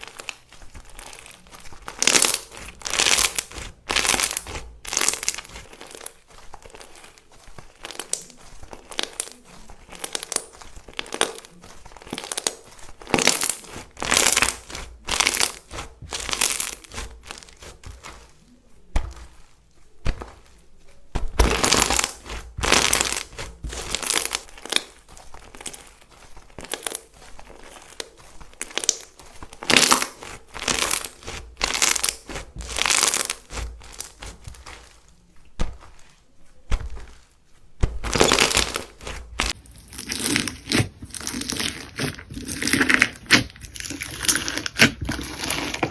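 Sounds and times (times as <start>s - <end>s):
crunchy slime crackling: 0.0s - 45.9s.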